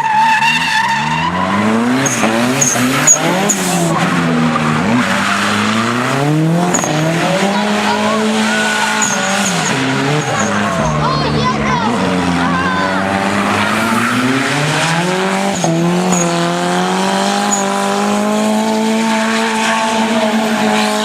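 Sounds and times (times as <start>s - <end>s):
car engine revving hard: 0.0s - 21.0s
tires spinning and squealing: 0.0s - 21.0s.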